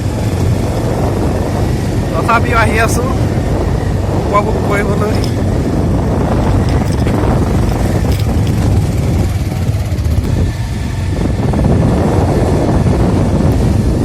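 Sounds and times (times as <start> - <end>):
road noise: 0.0 - 14.0
vehicle engine rumble: 0.0 - 14.0.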